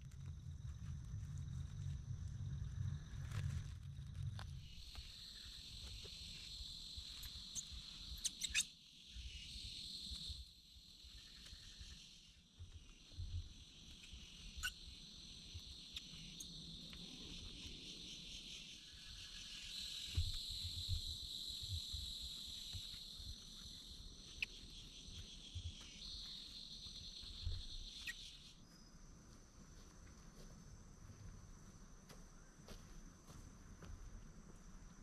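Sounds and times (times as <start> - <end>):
insect chorus buzzing: 0.0 - 35.0.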